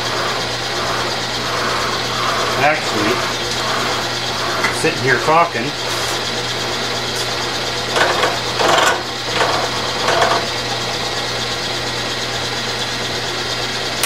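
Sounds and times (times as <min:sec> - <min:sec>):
gear cutter cutting metal: 0:00.0 - 0:14.0
milling machine motor hum: 0:00.0 - 0:14.0.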